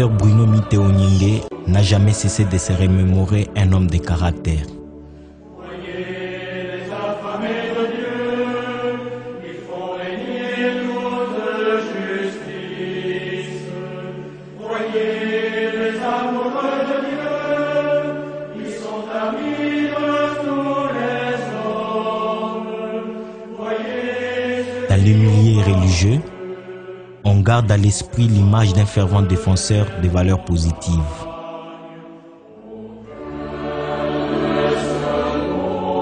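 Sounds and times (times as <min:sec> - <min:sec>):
voices chanting long notes: 0:00.0 - 0:04.0, 0:04.8 - 0:36.0.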